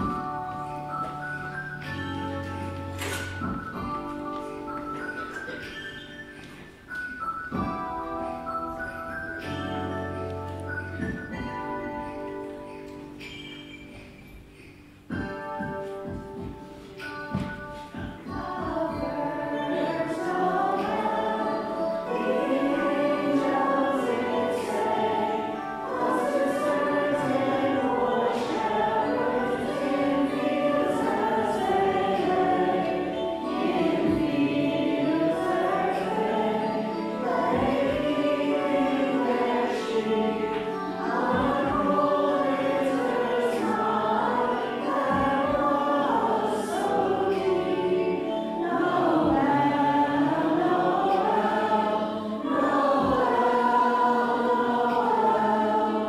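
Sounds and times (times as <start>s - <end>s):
choir singing a carol: 0.0s - 13.8s, 16.8s - 56.0s.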